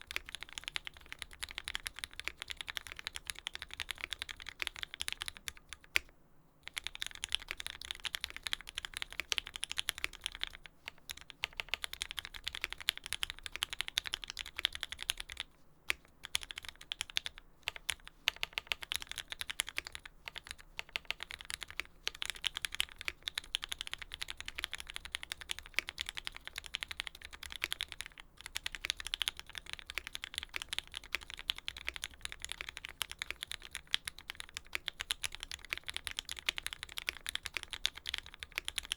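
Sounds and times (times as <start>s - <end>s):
mechanical keyboard typing: 0.0s - 6.1s, 6.7s - 38.9s.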